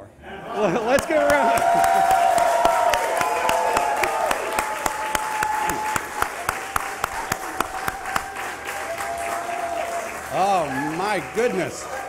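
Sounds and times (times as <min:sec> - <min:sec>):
voices cheering: 0:00.3 - 0:12.0
group applauding: 0:00.6 - 0:12.0.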